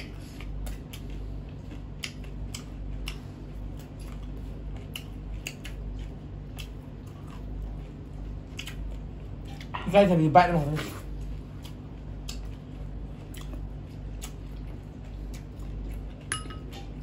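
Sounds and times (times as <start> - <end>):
wet chewing and mouth smacks: 0.0 - 9.8, 11.1 - 17.0
low hum: 0.0 - 17.0.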